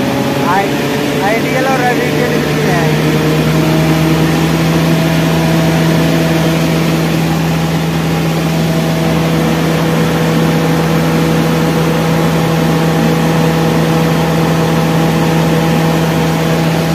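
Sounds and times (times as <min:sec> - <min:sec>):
diesel generator running: 0:00.0 - 0:16.9.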